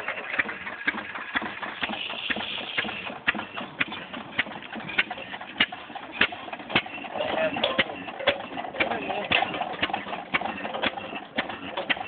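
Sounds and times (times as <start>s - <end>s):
tractor engine knocking: 0.0s - 12.0s.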